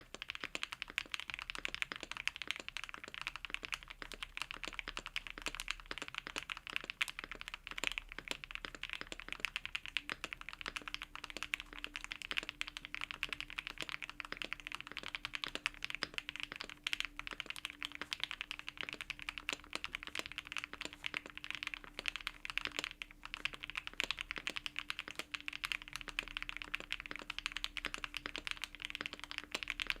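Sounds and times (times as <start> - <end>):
fast mechanical keyboard typing: 0.0 - 30.0.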